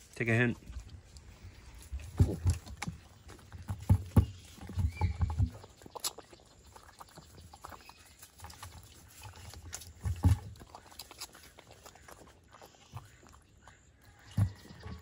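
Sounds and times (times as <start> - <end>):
animal chewing and licking: 0.0 - 15.0.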